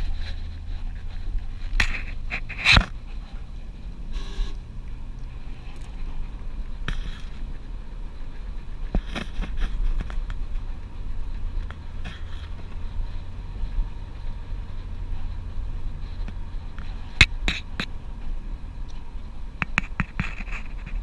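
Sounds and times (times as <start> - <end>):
vehicle road rumble from cabin: 0.0 - 21.0.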